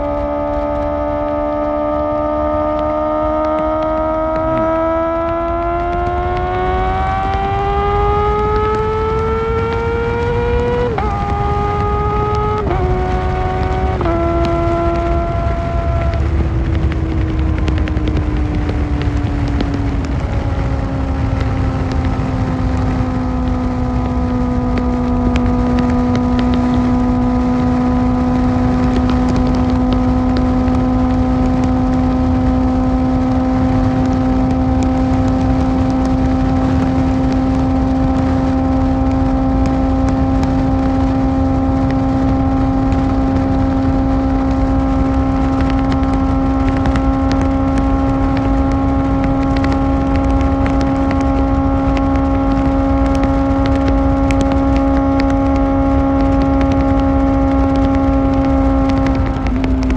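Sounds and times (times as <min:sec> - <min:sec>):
motorcycle engine cruising: 0:00.0 - 0:59.9
wind rumble on microphone: 0:00.0 - 0:59.9.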